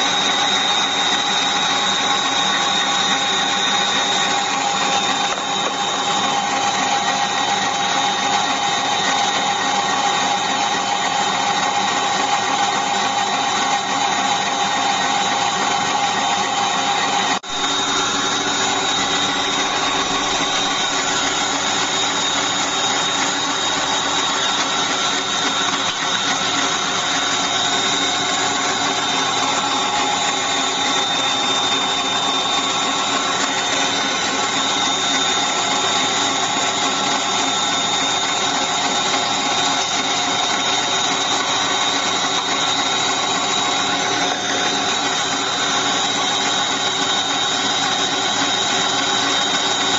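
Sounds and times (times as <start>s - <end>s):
electric mixer motor running: 0.0s - 49.9s.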